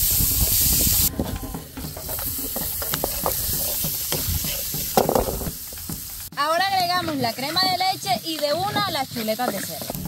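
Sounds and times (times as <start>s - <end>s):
onions sizzling in oil: 0.0s - 10.0s
utensil scraping a pan: 0.4s - 6.0s, 6.7s - 10.0s.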